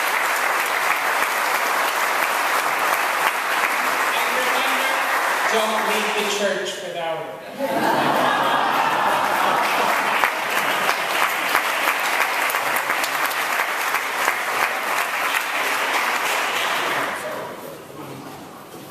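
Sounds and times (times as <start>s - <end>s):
audience applauding: 0.0s - 6.4s, 7.8s - 17.3s.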